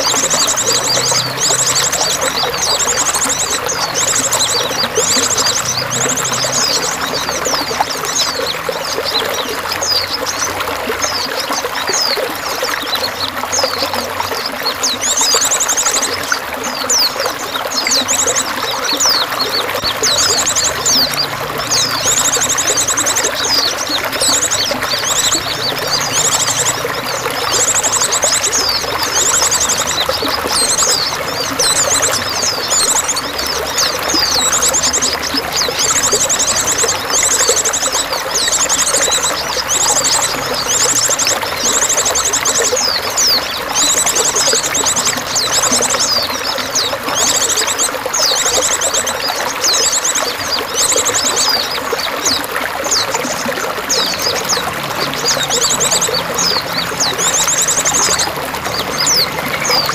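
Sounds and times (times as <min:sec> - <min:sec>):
songbirds chirping: 0:00.0 - 0:59.9
trickling splashing water: 0:00.0 - 0:59.9.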